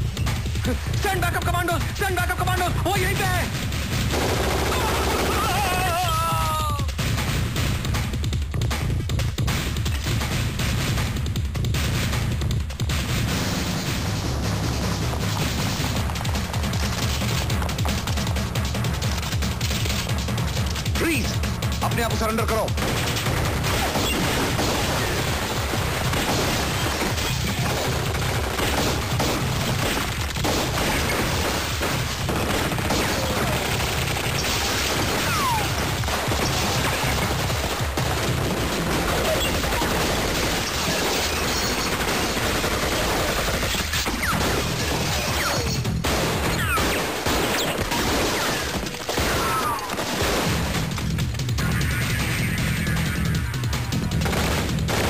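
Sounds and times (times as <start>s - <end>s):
action music: 0.0s - 55.0s
rapid gunfire: 0.0s - 55.0s.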